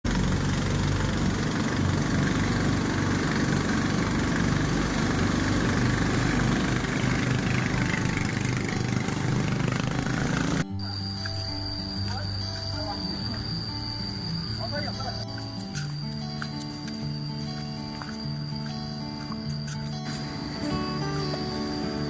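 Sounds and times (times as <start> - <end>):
engine running with rushing noise: 0.0 - 22.0.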